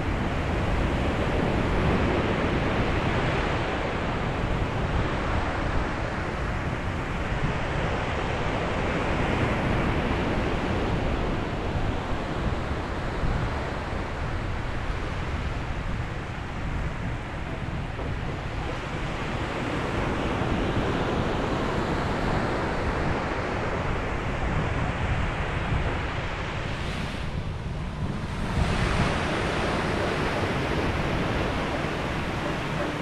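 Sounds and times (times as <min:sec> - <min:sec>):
waves breaking on a beach: 0:00.0 - 0:33.0
wind buffeting the microphone: 0:00.0 - 0:33.0.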